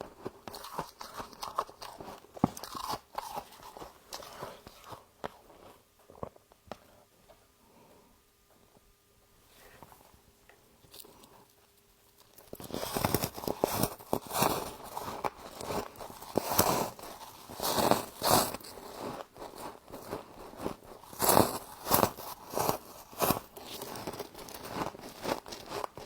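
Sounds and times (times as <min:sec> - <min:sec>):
frost being chewed crunching: 0:00.0 - 0:06.9, 0:10.8 - 0:26.0.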